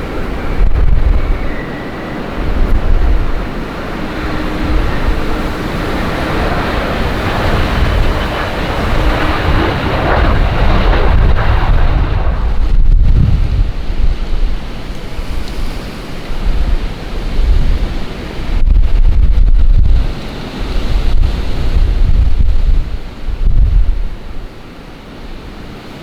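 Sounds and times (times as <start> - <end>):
jet engines: 0.0 - 26.0
wind buffeting microphone: 0.0 - 26.0.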